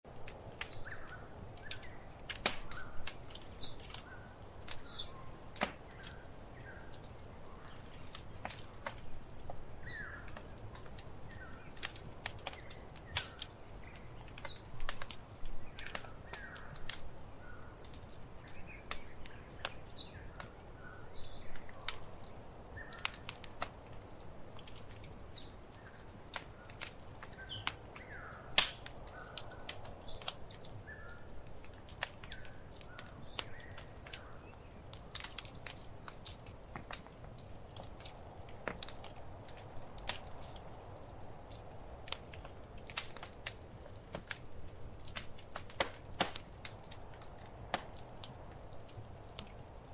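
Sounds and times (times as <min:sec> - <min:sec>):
wood fire crackling: 0:00.1 - 0:49.9.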